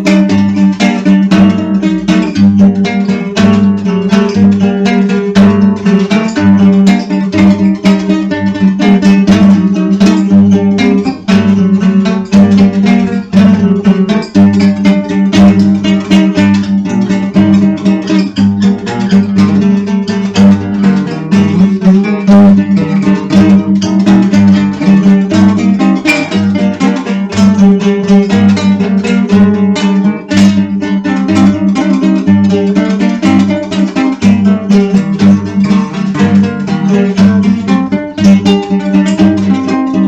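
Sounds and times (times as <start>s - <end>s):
plucked acoustic guitar: 0.0s - 40.0s.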